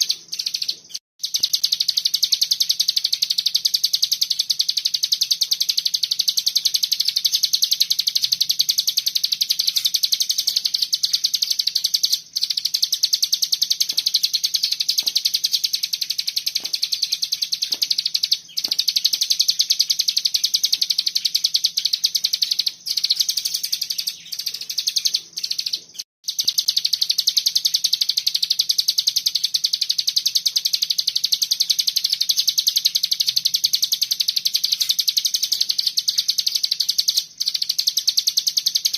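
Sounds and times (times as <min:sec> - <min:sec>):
songbird fast chattering song: 0:00.0 - 0:38.9.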